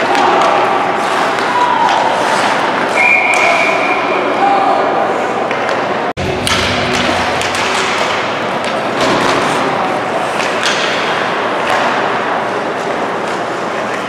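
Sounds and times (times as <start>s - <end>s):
crowd noise: 0.0s - 14.0s
skating noise: 0.0s - 14.0s.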